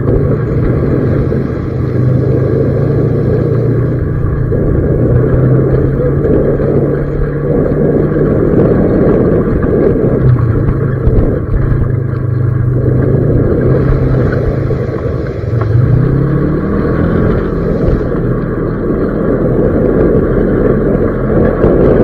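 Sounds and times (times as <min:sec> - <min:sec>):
off-road vehicle engine: 0:00.0 - 0:22.0
rumble of rough ride: 0:00.0 - 0:22.0.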